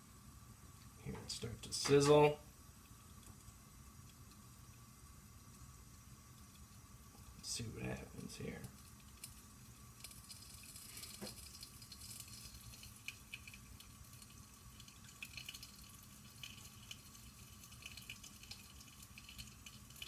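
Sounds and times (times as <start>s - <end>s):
butter sizzling in a pan: 0.0s - 20.0s
light crackle: 0.1s - 20.0s.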